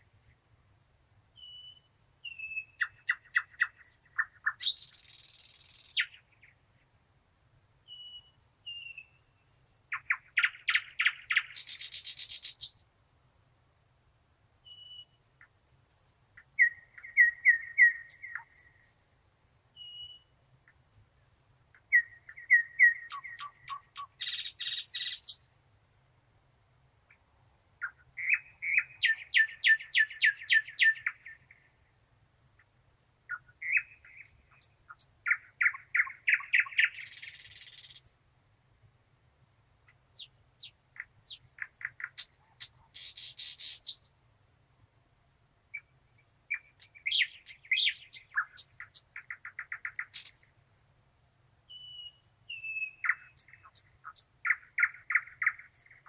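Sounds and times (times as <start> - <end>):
nightingale singing: 0.0 - 6.8, 7.8 - 12.9, 14.0 - 25.5, 26.7 - 38.2, 39.9 - 44.2, 45.2 - 56.0.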